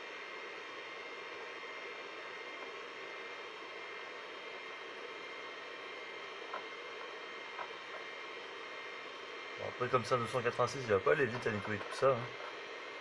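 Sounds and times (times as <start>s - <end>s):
computer fan and drive hiss: 0.0s - 13.0s.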